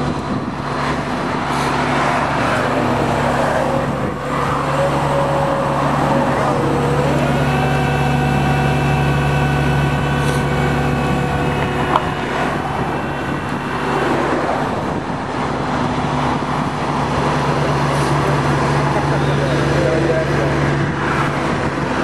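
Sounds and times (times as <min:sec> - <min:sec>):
freeway traffic rushing past: 0:00.0 - 0:22.0
vehicle engine idling: 0:00.0 - 0:22.0.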